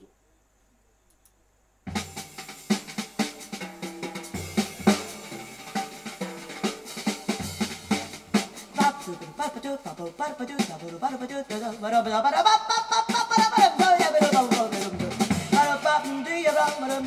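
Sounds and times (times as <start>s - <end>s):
drum kit: 1.9s - 17.0s
jazz through speakers: 1.9s - 17.0s.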